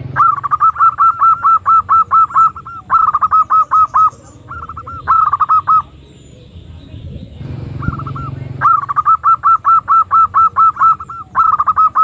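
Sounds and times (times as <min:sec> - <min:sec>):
dove cooing notes: 0:00.0 - 0:12.0.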